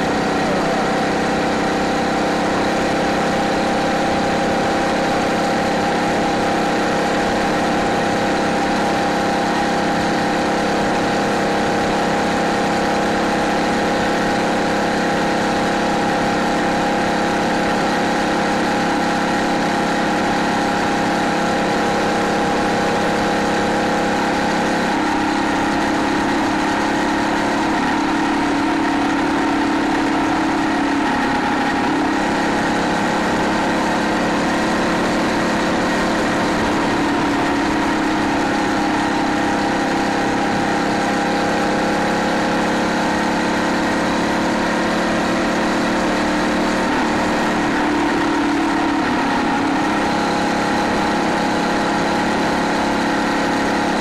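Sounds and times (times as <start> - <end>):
small four-stroke engine running: 0.0 - 54.0.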